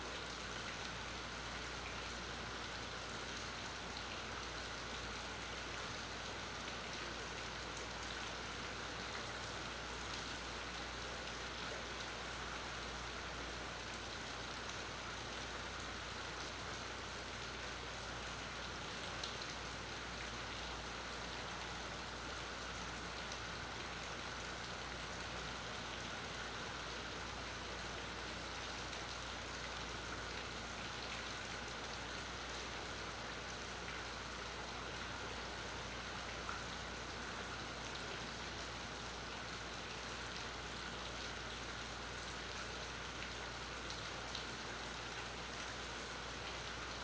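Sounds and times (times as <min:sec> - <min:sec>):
rain falling on water: 0:00.0 - 0:47.0.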